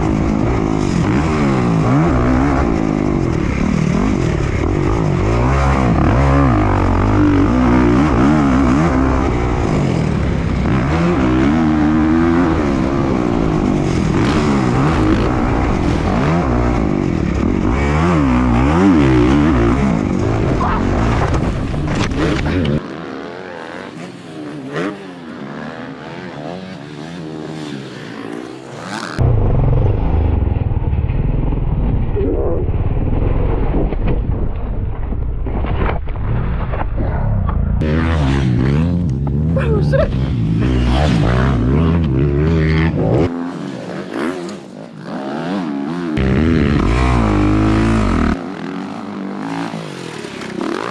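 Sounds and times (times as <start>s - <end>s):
dirt bike engine revving: 0.0s - 29.8s, 37.1s - 50.9s.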